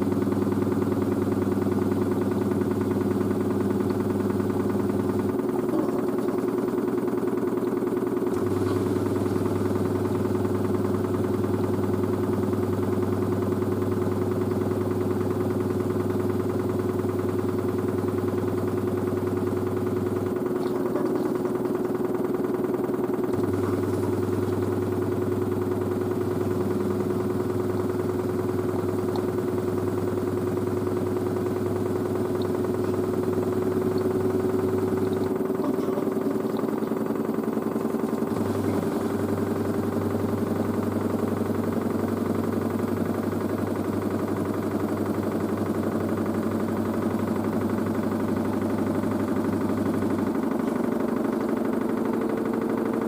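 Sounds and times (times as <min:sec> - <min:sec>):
drain pump hum: 0:00.0 - 0:53.0
washer drum spinning motor whine: 0:00.0 - 0:53.0.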